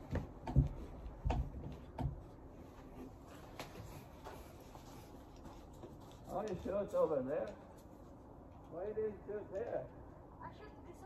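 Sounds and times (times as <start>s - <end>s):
quiet clicks and scuffs: 0.1s - 10.0s.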